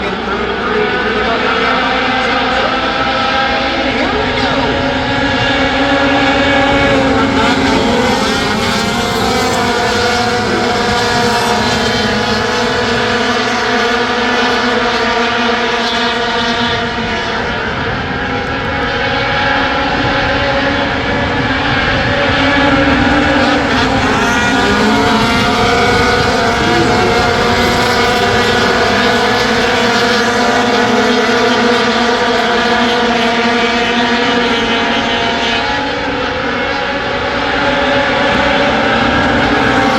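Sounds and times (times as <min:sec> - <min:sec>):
race truck engines roaring: 0:00.0 - 0:39.9.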